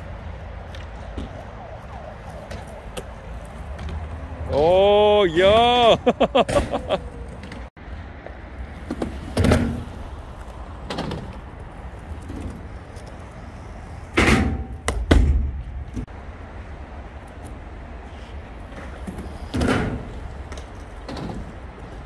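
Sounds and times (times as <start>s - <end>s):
skateboard wheels rolling on concrete: 0.0s - 22.0s.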